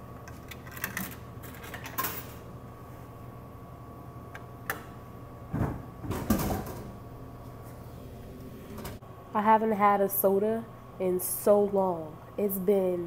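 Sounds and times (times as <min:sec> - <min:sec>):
vending machine humming: 0:00.0 - 0:13.0.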